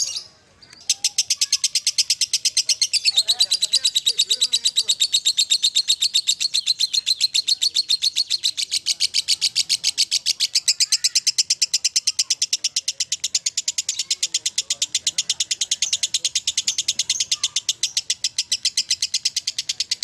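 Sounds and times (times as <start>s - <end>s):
lovebird shrill chirping chatter: 0.0s - 20.0s.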